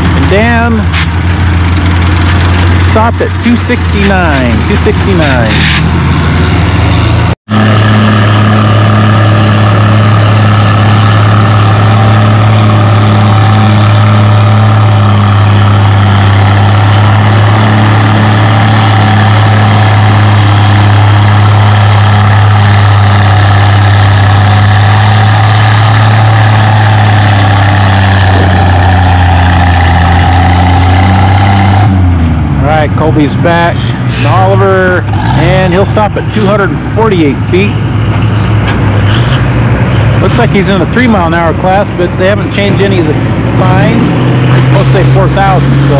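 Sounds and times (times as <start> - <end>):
tractor engine running hard: 0.0 - 45.9.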